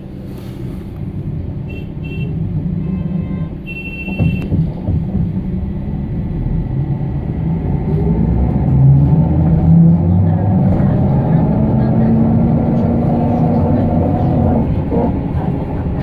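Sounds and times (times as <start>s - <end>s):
low rumble in trolleybus: 0.0s - 16.0s.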